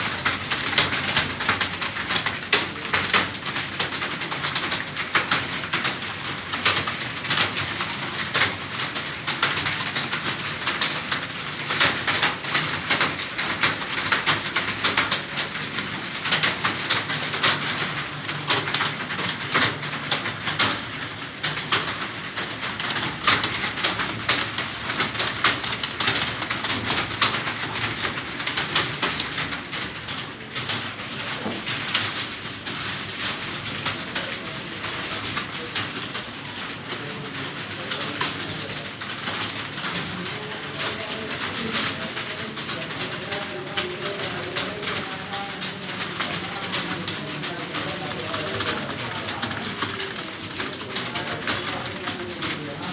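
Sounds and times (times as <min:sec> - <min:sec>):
fast keyboard typing: 0:00.0 - 0:52.9.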